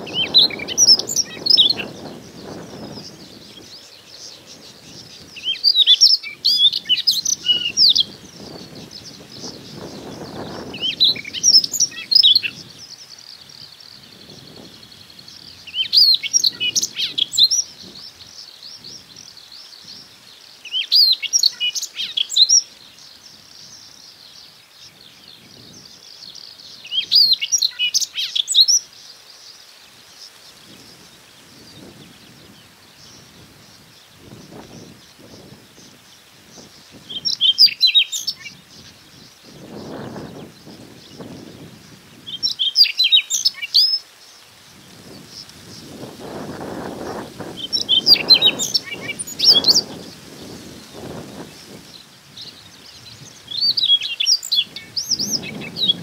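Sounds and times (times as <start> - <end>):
bird singing high-pitched song: 0.0 - 20.1, 20.7 - 28.9, 30.7 - 44.0, 45.0 - 56.0.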